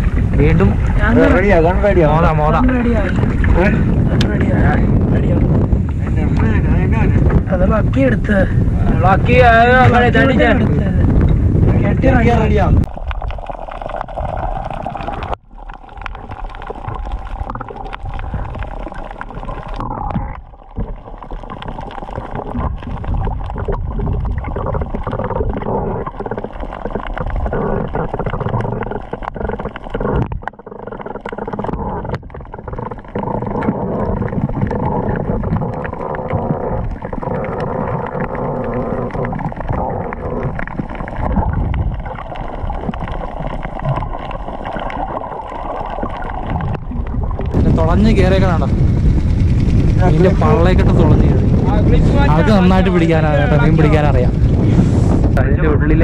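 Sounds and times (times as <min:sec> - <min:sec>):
muffled underwater gurgling: 0:00.0 - 0:56.0.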